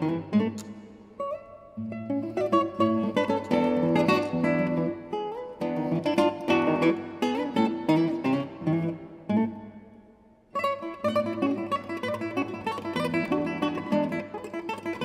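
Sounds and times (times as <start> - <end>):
classical guitar plucked notes: 0.0 - 15.0.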